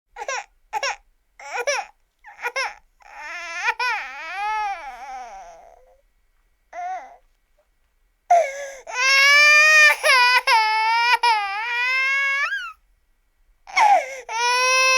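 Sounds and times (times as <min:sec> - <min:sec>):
baby crying: 0:00.2 - 0:06.0, 0:06.8 - 0:07.2, 0:08.3 - 0:12.8, 0:13.7 - 0:14.9.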